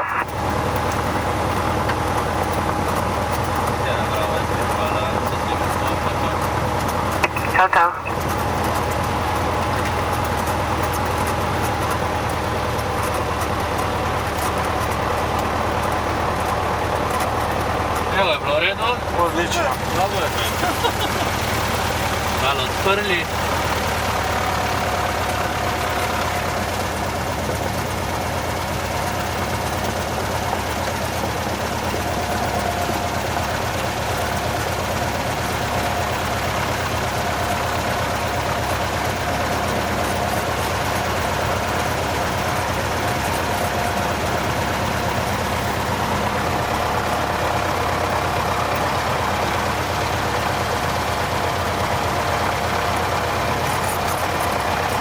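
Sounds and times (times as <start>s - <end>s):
aircraft piston engine running: 0.0s - 55.0s.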